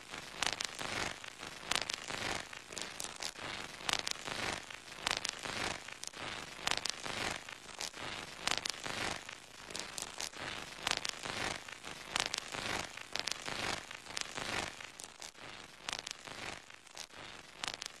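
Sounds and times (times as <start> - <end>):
irregular crackling and snaps: 0.0 - 18.0.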